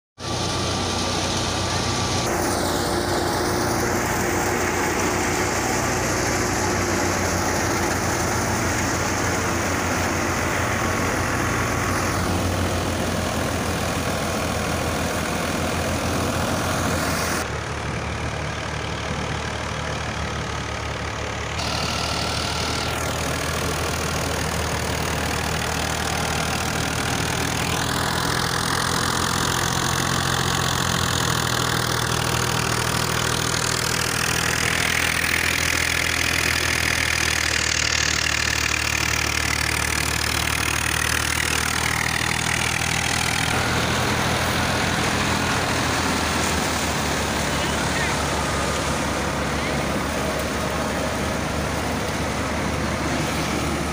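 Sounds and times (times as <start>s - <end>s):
thresher running noise: 0.2s - 18.4s, 19.2s - 53.9s
tractor diesel engine running: 0.2s - 53.9s.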